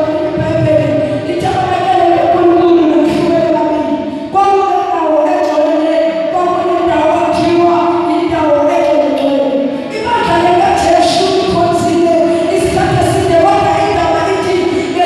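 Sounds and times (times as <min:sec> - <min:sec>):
boy singing into microphone: 0:00.0 - 0:15.0.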